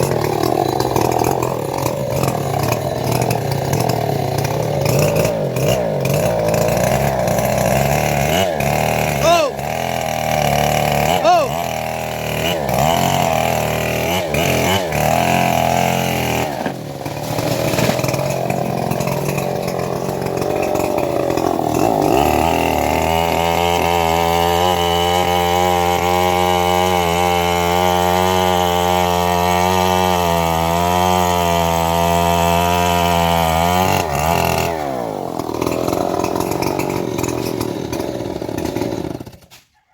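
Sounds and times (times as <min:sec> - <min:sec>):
sawmill engine running: 0:00.0 - 0:39.6.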